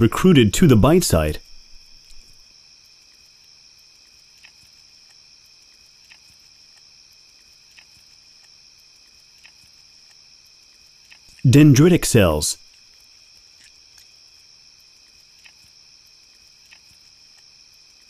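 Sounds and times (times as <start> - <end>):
soft ticks: 2.0 - 11.4, 12.7 - 18.0.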